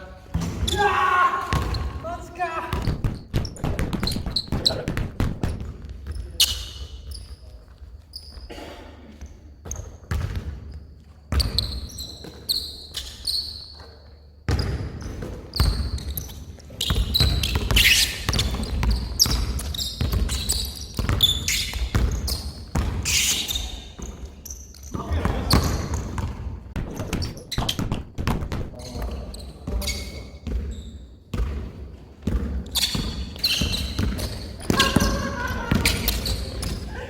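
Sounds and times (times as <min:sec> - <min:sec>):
sneakers squeaking on floor: 0:00.0 - 0:37.0
basketball bouncing on court: 0:00.3 - 0:08.5, 0:09.2 - 0:12.8, 0:13.6 - 0:36.9.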